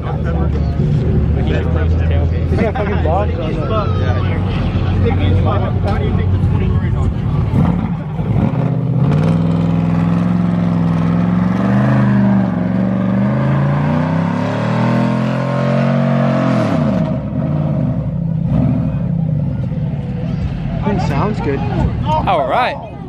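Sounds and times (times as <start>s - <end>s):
truck engine revving: 0.0s - 22.1s.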